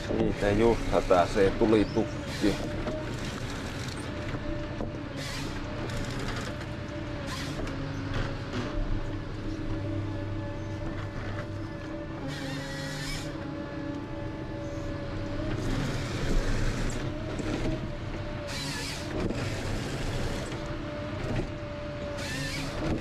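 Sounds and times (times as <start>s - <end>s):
harvester engine humming with whine: 0.0s - 23.0s.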